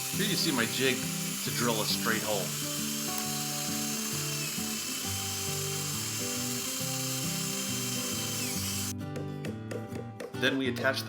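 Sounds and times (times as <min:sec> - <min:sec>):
electric drill boring into wood: 0:00.0 - 0:08.9.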